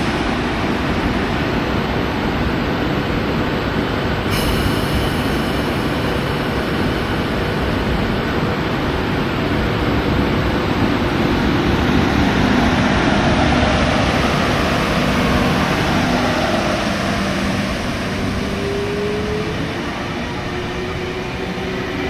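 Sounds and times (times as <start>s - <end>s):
electric train rumbling: 0.0s - 22.0s
train motor hum: 0.0s - 22.0s.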